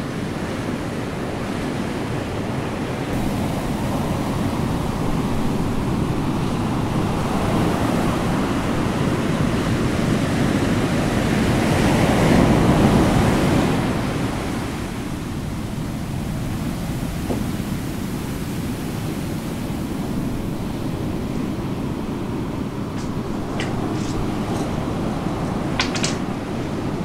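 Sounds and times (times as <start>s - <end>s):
rushing noise like surf: 0.0s - 27.0s.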